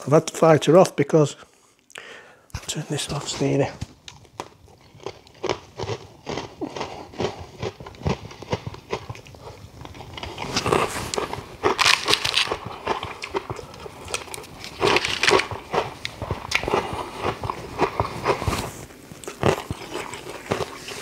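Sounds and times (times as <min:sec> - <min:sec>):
crunching brittle toffee: 0:04.0 - 0:21.0.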